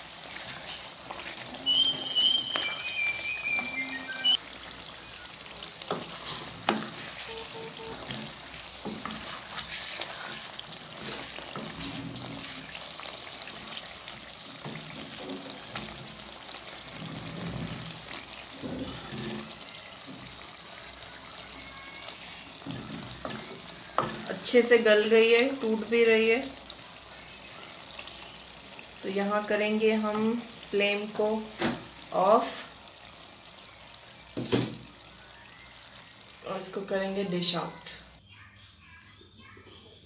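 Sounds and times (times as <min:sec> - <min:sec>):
chicken sizzling in a pan: 0:00.0 - 0:38.2.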